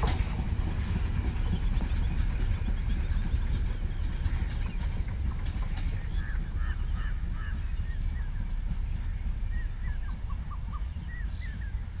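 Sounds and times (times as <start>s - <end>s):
birds chirping: 0.0s - 12.0s
low rumble: 0.0s - 12.0s.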